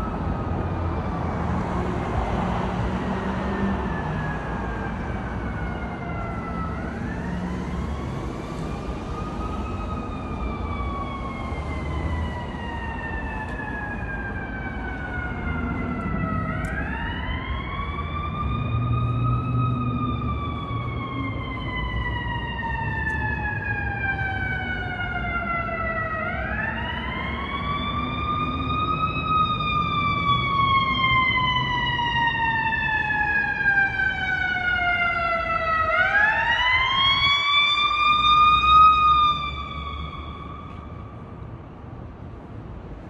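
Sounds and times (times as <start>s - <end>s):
emergency siren wailing: 0.0s - 41.5s
city traffic rumble: 0.0s - 43.0s.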